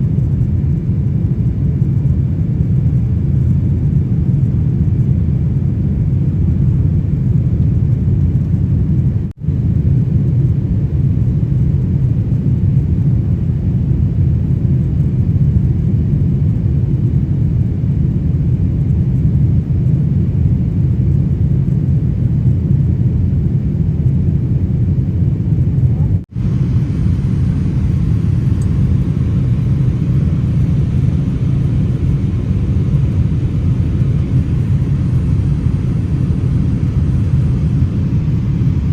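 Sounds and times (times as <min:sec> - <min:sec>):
airliner cabin noise: 0:00.0 - 0:38.9.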